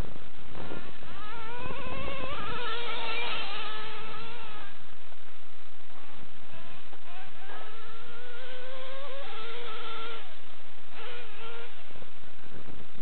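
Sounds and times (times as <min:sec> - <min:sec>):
nitro rc truck engine whining: 0:00.0 - 0:04.8, 0:06.0 - 0:12.0.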